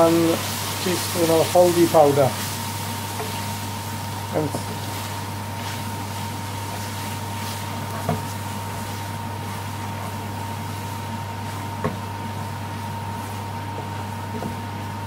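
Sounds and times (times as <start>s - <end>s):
mechanical hum: 0.0s - 15.0s
spoon stirring frying onions: 0.4s - 14.9s.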